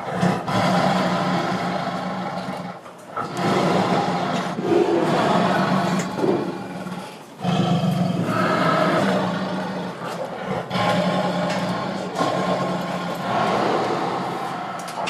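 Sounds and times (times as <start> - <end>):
lion growling and roaring: 0.0 - 15.0.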